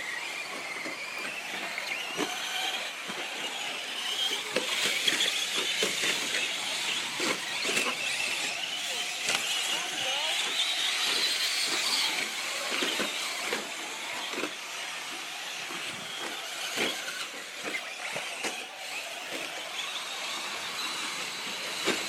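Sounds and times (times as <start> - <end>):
rc truck motor whine: 0.0 - 22.0
tyres hissing on loose dirt: 0.0 - 22.0.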